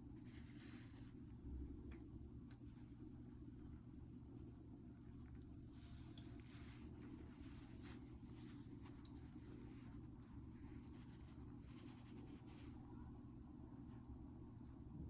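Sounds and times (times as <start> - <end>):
hamster rustling and nibbling: 0.1 - 15.0.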